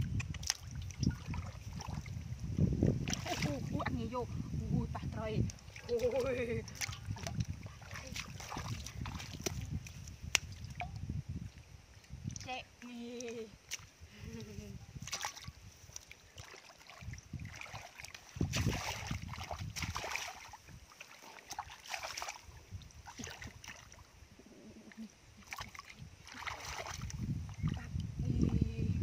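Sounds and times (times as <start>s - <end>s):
squelching and splashing in mud: 0.0s - 11.0s, 12.0s - 28.8s.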